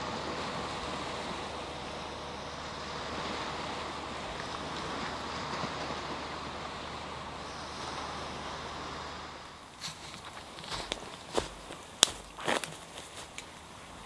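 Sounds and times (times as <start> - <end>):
small waves washing onto sand: 0.0 - 14.0.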